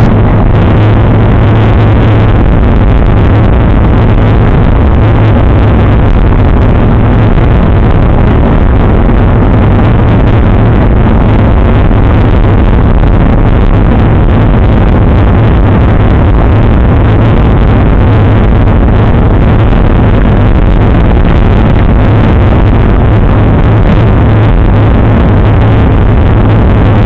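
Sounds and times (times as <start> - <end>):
tyre and road noise: 0.0 - 27.0
wind buffeting microphone: 0.0 - 27.0.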